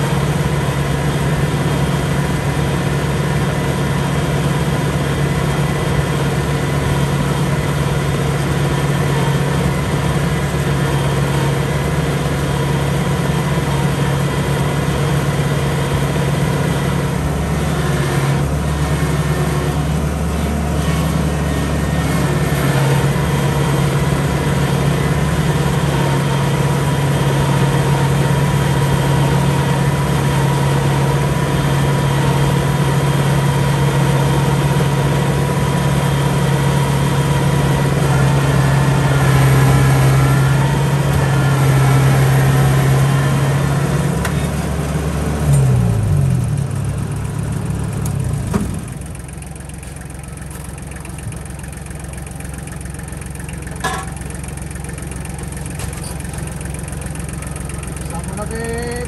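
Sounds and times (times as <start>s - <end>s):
harvester engine droning: 0.0s - 59.0s.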